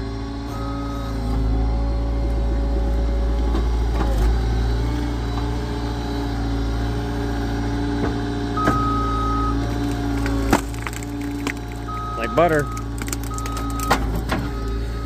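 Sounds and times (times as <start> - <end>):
log splitter engine running: 0.0 - 15.0.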